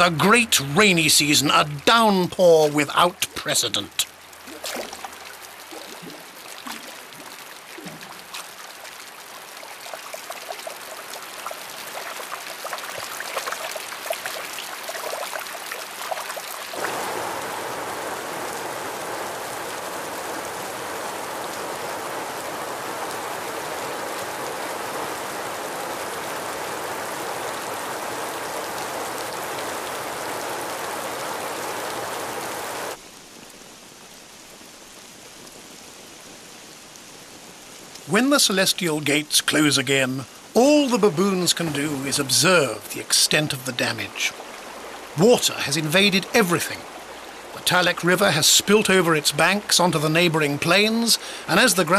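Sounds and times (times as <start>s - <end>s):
rain pattering and pouring: 0.0s - 51.9s.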